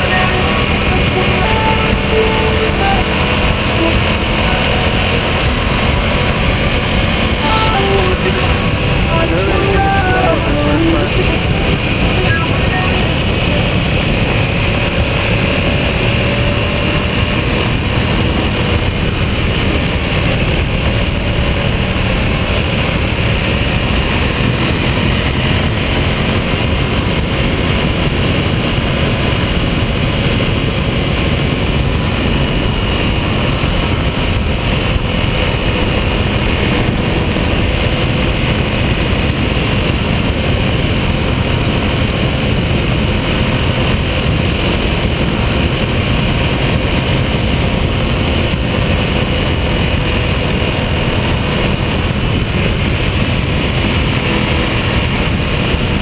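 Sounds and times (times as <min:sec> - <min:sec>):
motorcycle engine droning: 0:00.0 - 0:56.0
wind rushing over microphone: 0:03.0 - 0:56.0.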